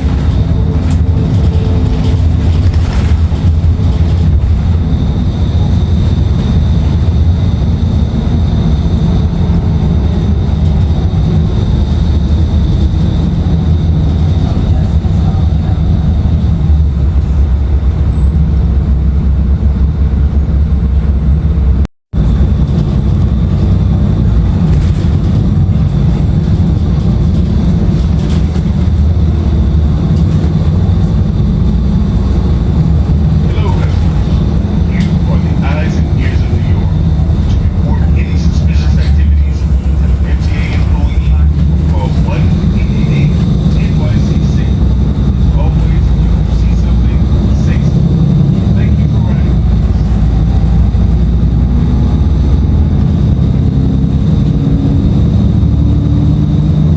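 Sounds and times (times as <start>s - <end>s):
bus diesel engine rumble: 0.0s - 56.9s.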